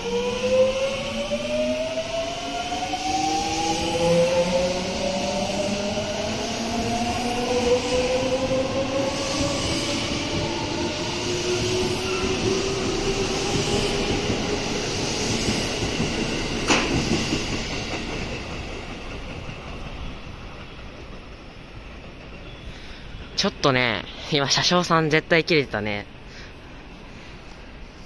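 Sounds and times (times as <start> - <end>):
train wheels rumbling: 0.0 - 24.8.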